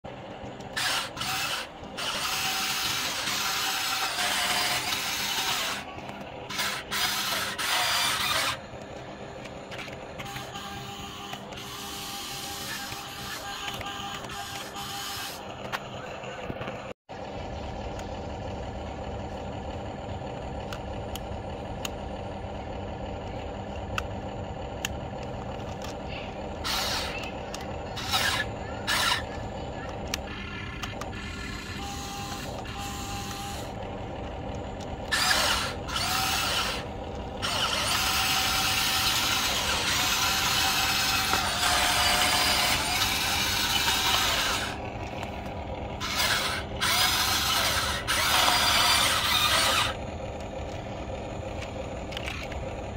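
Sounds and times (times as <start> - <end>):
toy excavator hum: 0.1 - 52.9
motor whirring: 0.4 - 15.8, 24.8 - 52.9.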